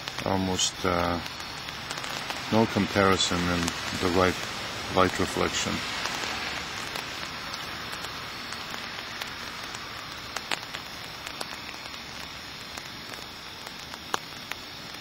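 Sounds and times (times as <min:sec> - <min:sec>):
rain on wet pavement: 0:00.0 - 0:15.0
raindrops ticking: 0:00.0 - 0:15.0.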